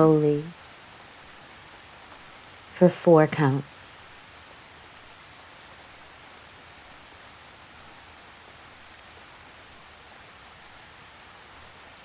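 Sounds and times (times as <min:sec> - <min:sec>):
gentle rain: 0:00.0 - 0:12.0.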